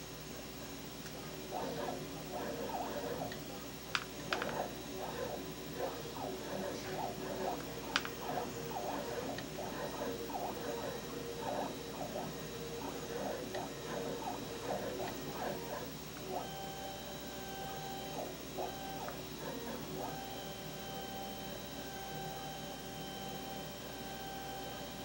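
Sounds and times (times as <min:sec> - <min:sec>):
camera motors whirring: 0:00.2 - 0:25.0.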